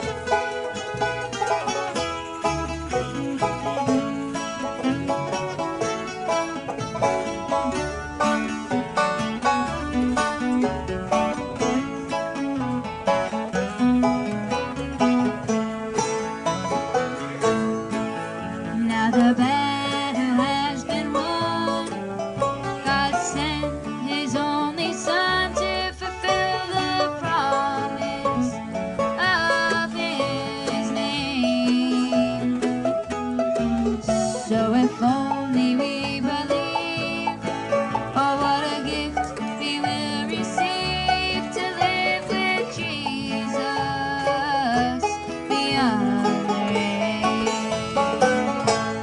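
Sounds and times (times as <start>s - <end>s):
live bluegrass band playing: 0.0s - 49.0s
plucked string instruments: 0.0s - 49.0s.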